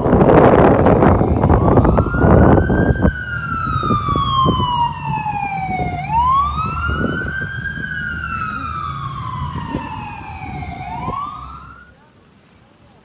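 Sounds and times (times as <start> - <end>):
wind rushing over microphone: 0.0 - 11.9
emergency siren wailing: 0.0 - 12.0.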